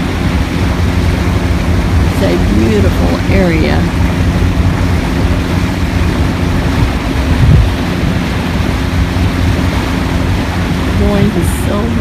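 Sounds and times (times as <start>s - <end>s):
boat engine droning: 0.0s - 12.0s
water noise: 0.0s - 12.0s
wind: 0.0s - 12.0s.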